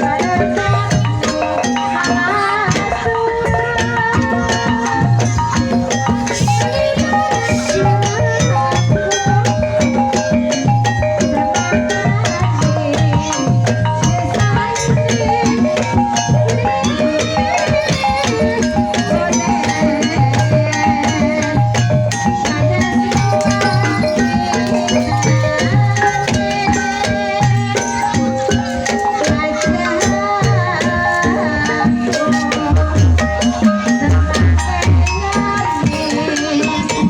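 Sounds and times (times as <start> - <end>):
gamelan music: 0.0 - 37.0.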